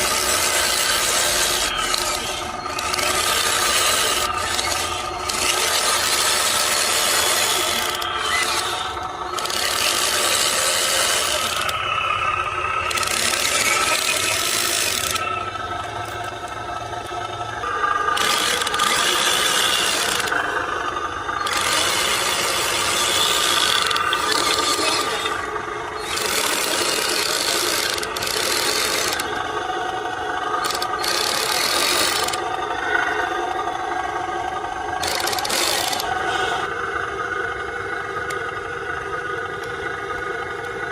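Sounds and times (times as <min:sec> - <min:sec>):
toy truck motor whirring: 0:00.0 - 0:40.9.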